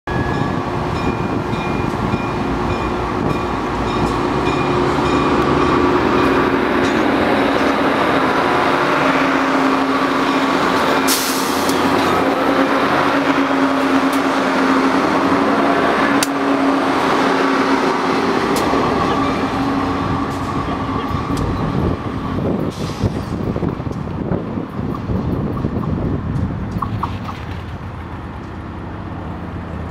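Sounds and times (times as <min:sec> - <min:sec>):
train wheels rumbling on rails: 0:00.1 - 0:29.9
diesel engines running: 0:00.4 - 0:29.9.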